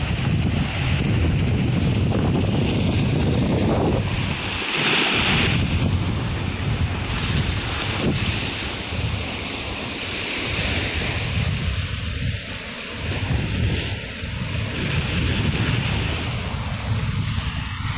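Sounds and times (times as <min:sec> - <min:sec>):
small waves washing on shore: 0:00.0 - 0:17.9
wind buffeting microphone: 0:00.0 - 0:17.9.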